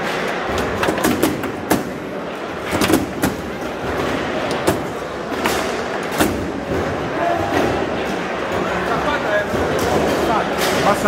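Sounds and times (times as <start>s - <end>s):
murmur of voices in hall: 0.0s - 11.0s.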